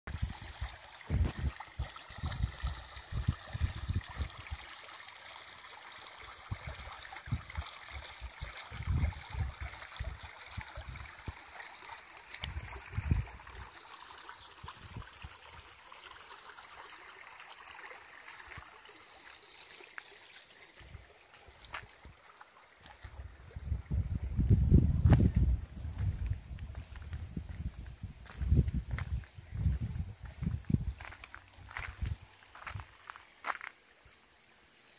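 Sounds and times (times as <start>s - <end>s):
river water trickling over rocks: 0.1s - 34.9s.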